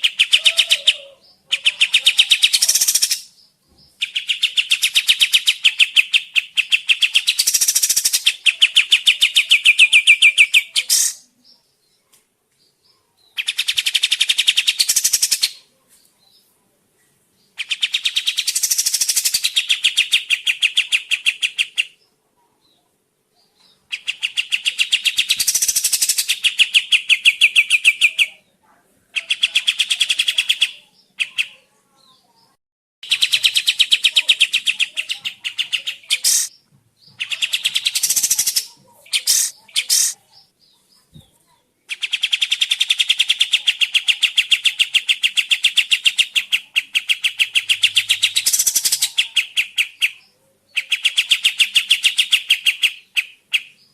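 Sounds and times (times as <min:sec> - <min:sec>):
songbird chattering song: 0:00.0 - 0:53.9.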